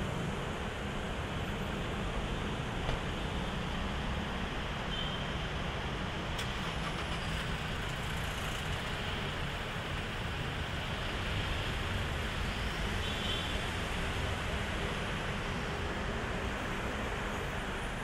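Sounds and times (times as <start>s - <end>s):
traffic rumble with road hiss: 0.0s - 18.0s.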